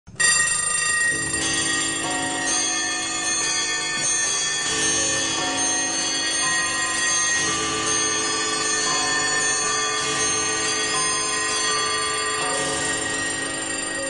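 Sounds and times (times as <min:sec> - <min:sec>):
bell-like chiming music: 0:00.2 - 0:14.0.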